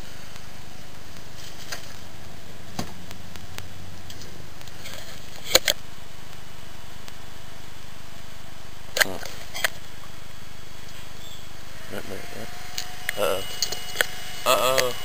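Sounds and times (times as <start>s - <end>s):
computer power supply fan hum: 0.0s - 15.0s.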